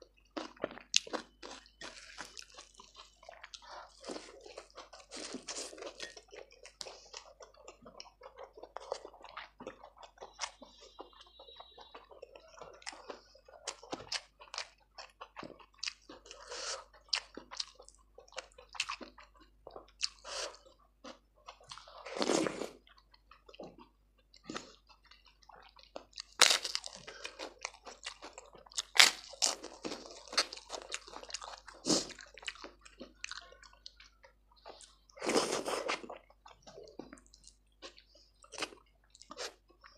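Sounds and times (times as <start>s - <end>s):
wet chewing and crunching: 0.0s - 39.9s.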